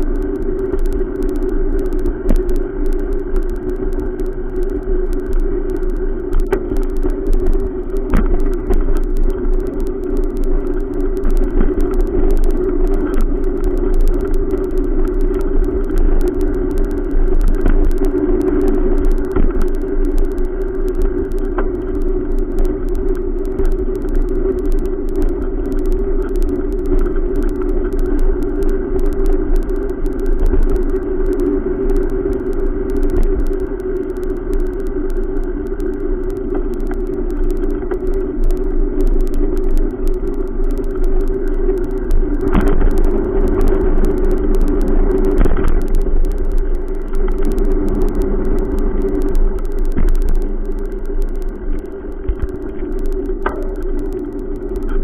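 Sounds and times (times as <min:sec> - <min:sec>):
constant riding hum: 0:00.0 - 0:55.0.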